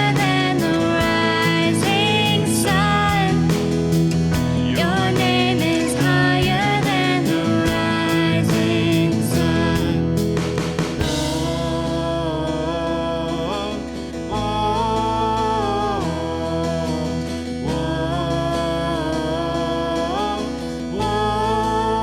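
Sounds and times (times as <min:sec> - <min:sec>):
worship band playing: 0:00.0 - 0:22.0.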